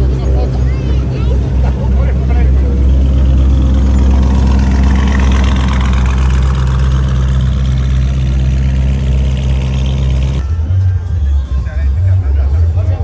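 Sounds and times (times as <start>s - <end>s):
car engine idling: 0.0s - 10.4s.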